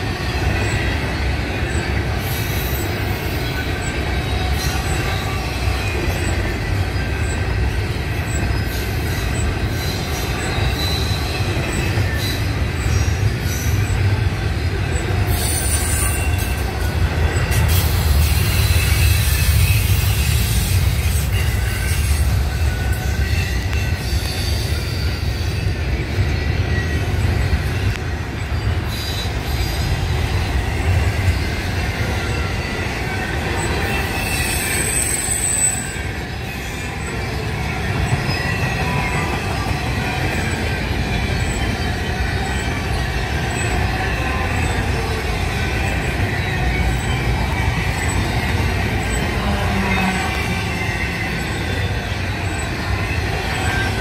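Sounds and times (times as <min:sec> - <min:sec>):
train wheels rumbling on rails: 0:00.0 - 0:54.0
wheel squeals: 0:00.0 - 0:54.0.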